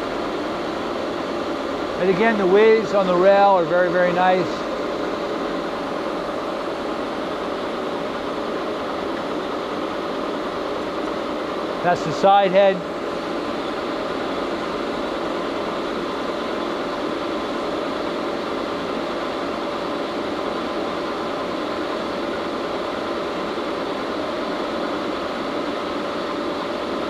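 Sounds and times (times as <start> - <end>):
drive whine: 0.0 - 27.0
lathe machine drone: 0.0 - 27.0.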